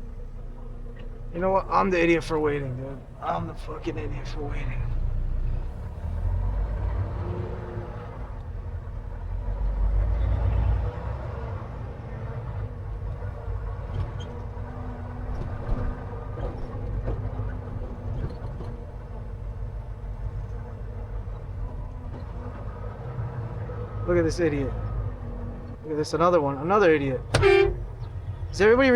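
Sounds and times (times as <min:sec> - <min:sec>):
diesel truck engine rumbling: 0:00.0 - 0:28.9.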